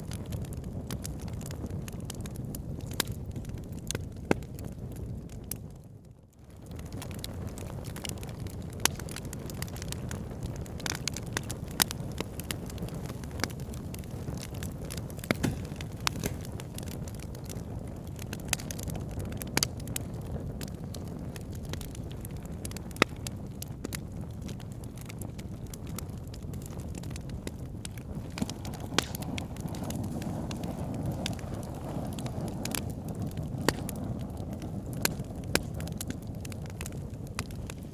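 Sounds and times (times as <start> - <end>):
flames rushing: 0.0 - 5.7, 6.4 - 37.9
fire crackling and popping: 0.0 - 37.9.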